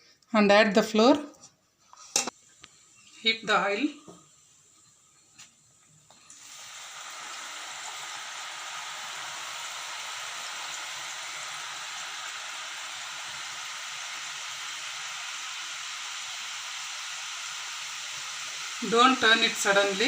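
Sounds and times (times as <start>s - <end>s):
dough deep-frying in hot oil: 2.0s - 20.0s.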